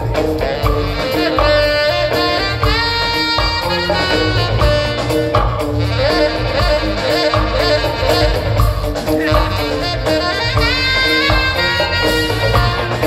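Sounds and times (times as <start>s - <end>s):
bass guitar: 0.0s - 13.0s
drums: 0.0s - 13.0s
electric guitars: 0.0s - 13.0s
keyboards: 0.0s - 13.0s
saxophone: 0.0s - 13.0s.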